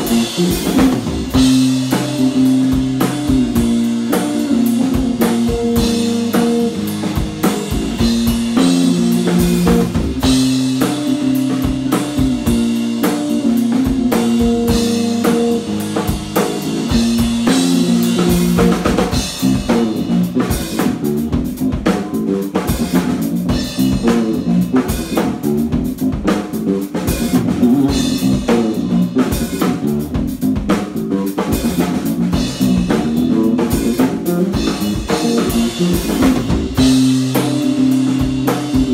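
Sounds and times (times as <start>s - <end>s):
drum kit playing: 0.0s - 38.9s
electric bass playing: 0.0s - 38.9s.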